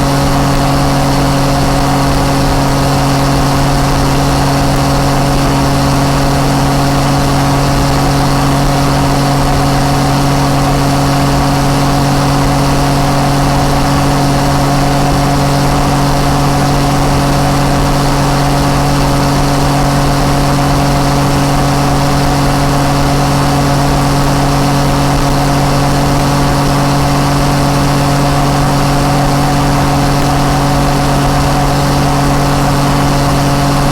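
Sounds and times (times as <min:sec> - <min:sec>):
motorcycle engine running steadily: 0:00.0 - 0:33.9.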